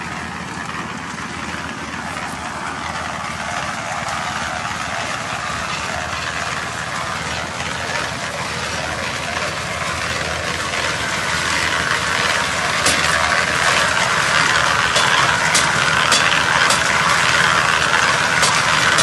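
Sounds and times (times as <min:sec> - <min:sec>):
concrete mixer running: 0:00.0 - 0:19.0.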